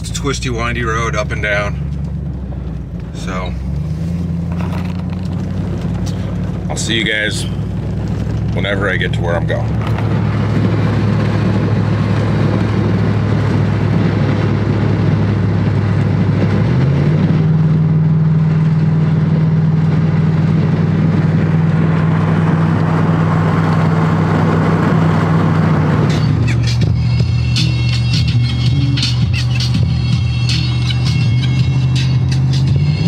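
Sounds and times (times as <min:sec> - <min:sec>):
truck engine drone: 0:00.0 - 0:33.0
tyre and road noise: 0:00.0 - 0:33.0.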